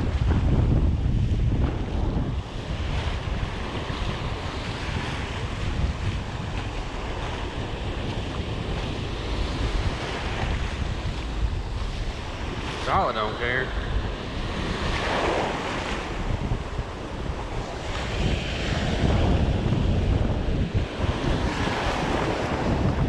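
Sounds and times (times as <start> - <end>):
foamy wash over sand: 0.0 - 23.0
ocean surf breaking: 0.0 - 23.0
wind rumbling on microphone: 0.0 - 23.0.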